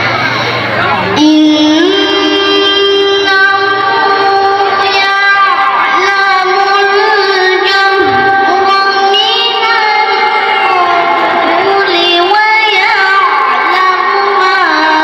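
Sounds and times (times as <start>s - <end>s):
boy reciting melodically: 0.8s - 15.0s.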